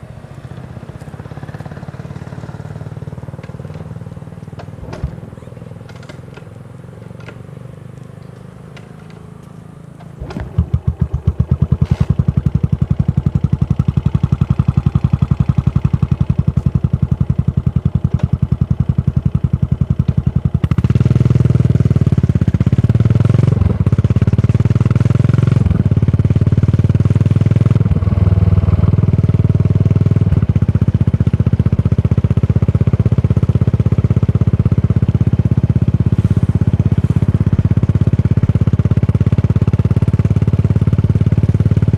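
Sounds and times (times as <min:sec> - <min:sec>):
motorcycle engine idling: 0:00.0 - 0:41.9
motorcycle riding off: 0:00.0 - 0:41.9.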